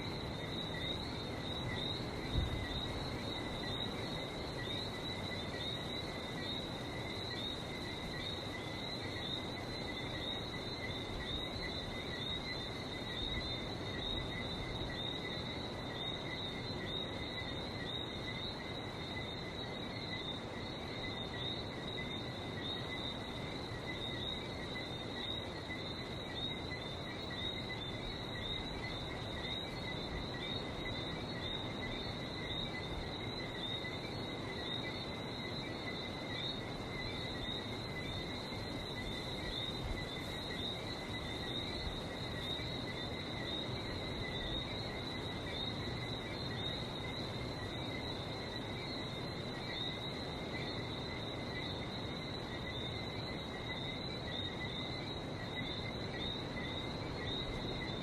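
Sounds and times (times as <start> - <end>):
frogs chirping in chorus: 0.0 - 58.0.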